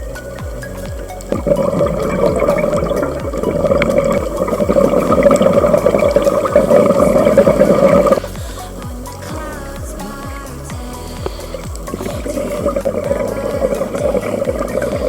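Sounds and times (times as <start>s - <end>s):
background music: 0.0s - 15.0s
rushing bubbling water: 0.0s - 15.0s.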